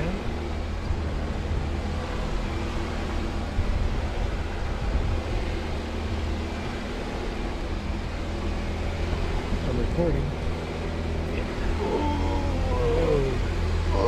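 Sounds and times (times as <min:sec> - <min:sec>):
engine rumbling under load: 0:00.0 - 0:14.0.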